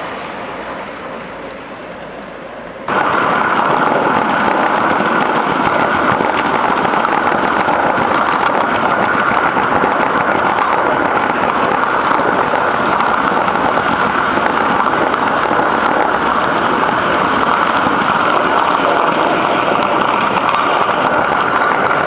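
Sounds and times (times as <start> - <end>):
steam locomotive working: 0.0 - 22.0
wagon wheels rattling on rails: 0.0 - 22.0.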